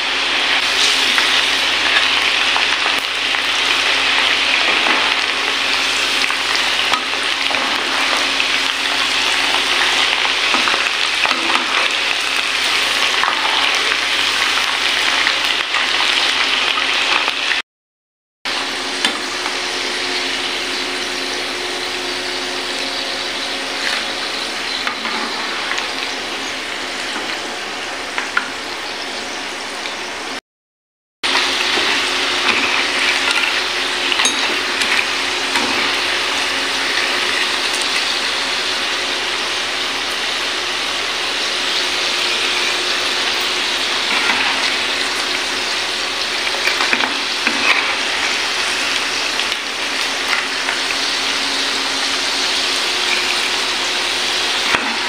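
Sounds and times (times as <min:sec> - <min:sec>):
deep-frying sizzle in oil: 0:00.0 - 0:17.6, 0:18.5 - 0:30.4, 0:31.2 - 0:55.0.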